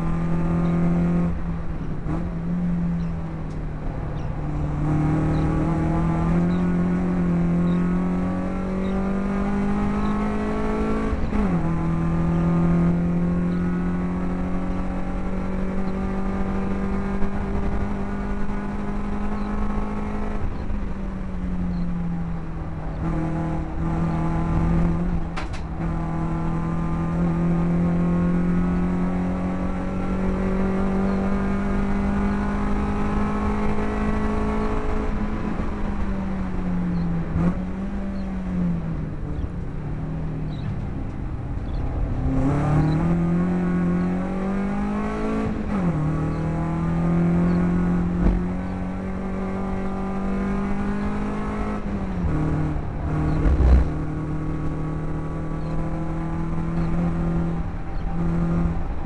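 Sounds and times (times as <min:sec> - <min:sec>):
race car engine under load: 0:00.0 - 0:59.0
road and wind noise: 0:00.0 - 0:59.0.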